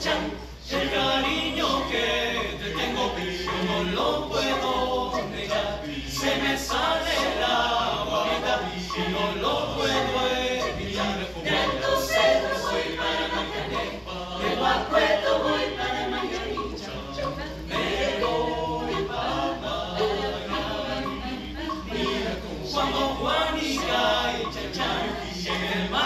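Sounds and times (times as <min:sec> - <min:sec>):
choir singing a cappella: 0:00.0 - 0:26.0.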